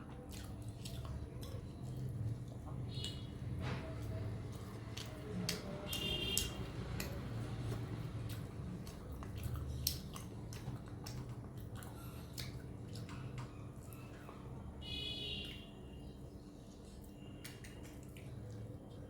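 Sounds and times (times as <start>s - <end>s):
person chewing food: 0.0s - 14.6s, 15.4s - 19.0s.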